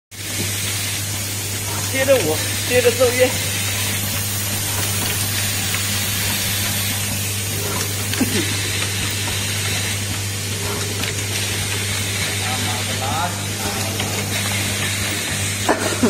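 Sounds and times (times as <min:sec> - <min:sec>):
machine humming and hissing: 0:00.1 - 0:16.0.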